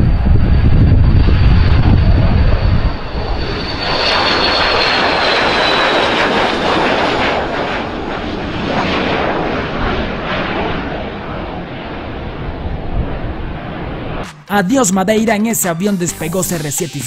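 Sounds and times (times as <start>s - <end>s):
jet roar: 0.0s - 14.5s
jet turbine whine: 0.0s - 14.5s.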